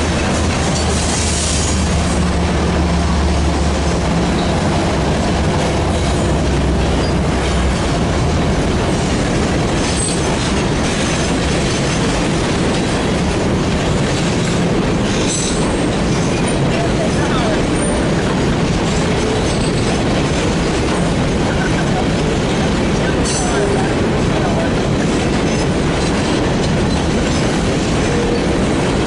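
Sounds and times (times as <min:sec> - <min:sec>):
locomotive engine drone: 0:00.0 - 0:29.0
train wheels rumbling and rattling: 0:00.0 - 0:29.0.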